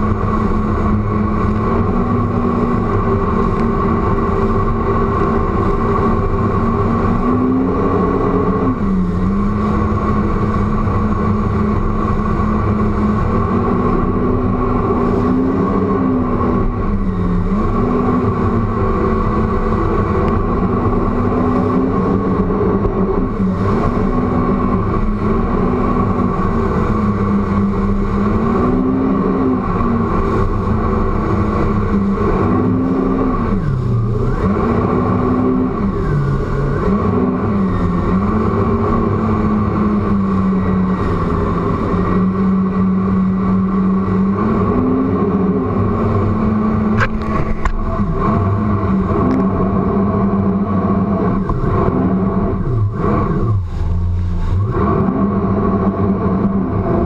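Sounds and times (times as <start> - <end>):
personal watercraft engine at speed: 0.0 - 57.0.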